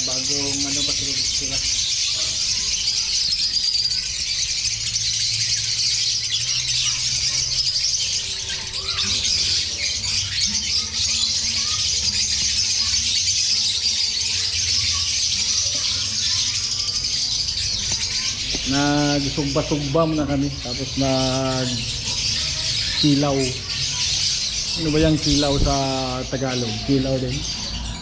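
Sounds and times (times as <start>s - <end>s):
lovebirds chattering and squealing: 0.0s - 28.0s.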